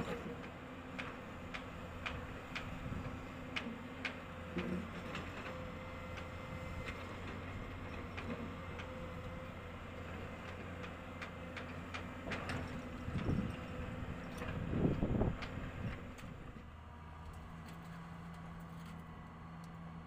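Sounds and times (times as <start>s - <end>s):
diesel machinery humming: 0.0s - 20.0s.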